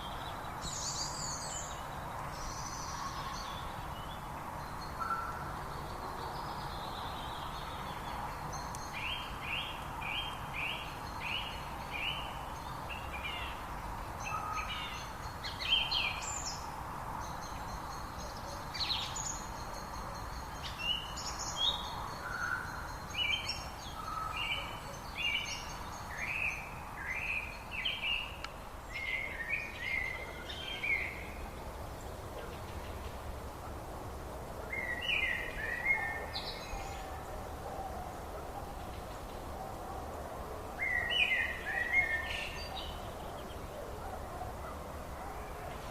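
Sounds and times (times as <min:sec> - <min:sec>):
songbirds singing: 0:00.0 - 0:45.9
steady background hiss: 0:00.0 - 0:45.9.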